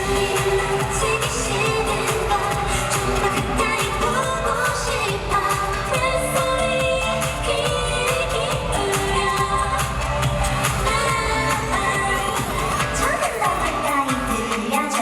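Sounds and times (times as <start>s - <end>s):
women singing dance-pop: 0.0s - 15.0s.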